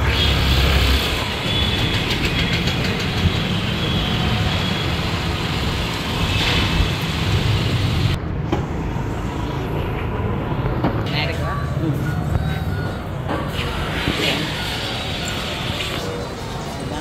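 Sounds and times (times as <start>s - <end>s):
road and rushing noise: 0.0s - 17.0s.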